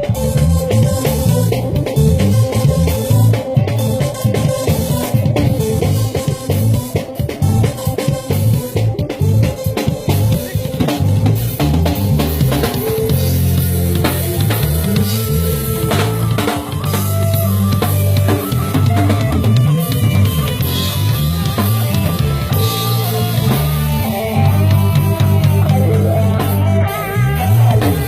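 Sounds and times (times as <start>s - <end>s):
drum kit: 0.0s - 28.0s
guitar: 0.0s - 28.0s
loud bass line: 0.0s - 28.0s.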